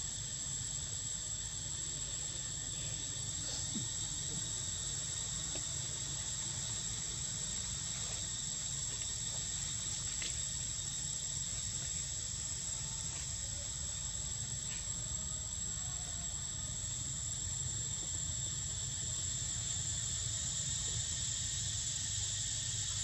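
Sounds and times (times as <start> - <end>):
insect chorus droning: 0.0 - 23.0.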